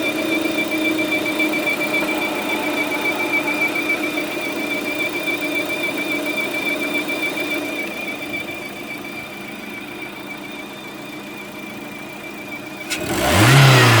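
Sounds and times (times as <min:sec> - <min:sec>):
car engine idling with whistle: 0:00.0 - 0:14.0.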